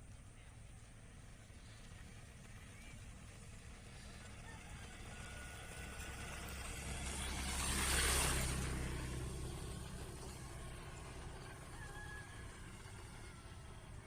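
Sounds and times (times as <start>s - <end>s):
low engine hum: 0.0s - 14.0s
vehicle driving past: 1.6s - 14.0s.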